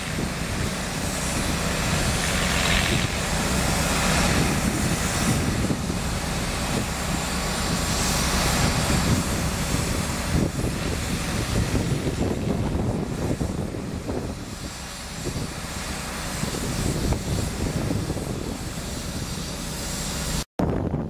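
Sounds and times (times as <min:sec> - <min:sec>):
train machinery rumbling drone: 0:00.0 - 0:21.0.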